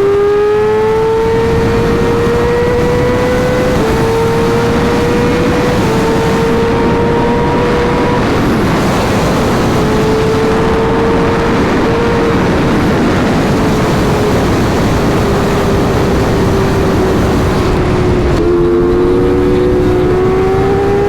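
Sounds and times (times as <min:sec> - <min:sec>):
motorcycle engine at high revs: 0:00.0 - 0:21.0
wind rush: 0:00.0 - 0:21.0.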